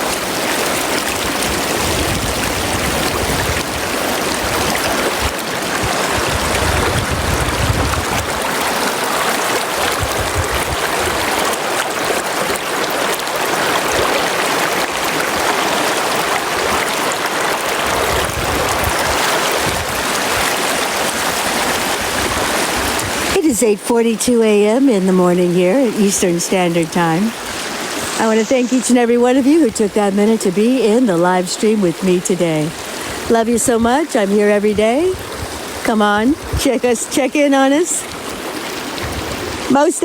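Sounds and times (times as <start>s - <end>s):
river rushing: 0.0s - 23.7s, 24.4s - 34.4s, 35.0s - 40.0s.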